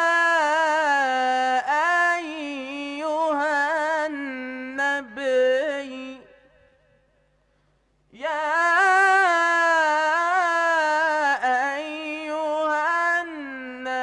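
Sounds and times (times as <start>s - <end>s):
man chanting melodically into microphone: 0.0s - 6.9s, 8.1s - 14.0s.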